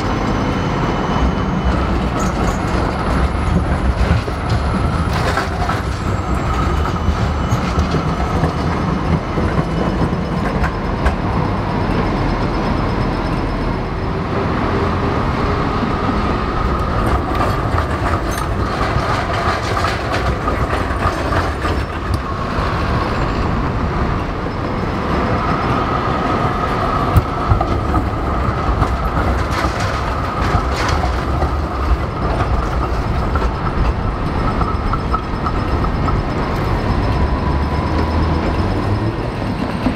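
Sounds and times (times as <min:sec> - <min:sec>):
street traffic: 0:00.0 - 0:39.9
tram wheels rumbling on rail: 0:00.0 - 0:39.9
wheels clicking over track joints: 0:01.7 - 0:12.1, 0:16.1 - 0:39.9.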